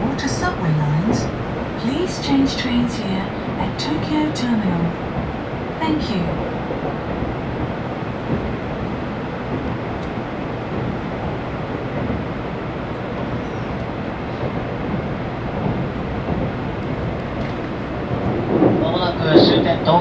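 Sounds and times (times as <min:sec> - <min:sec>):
train wheels running: 0:00.0 - 0:20.0.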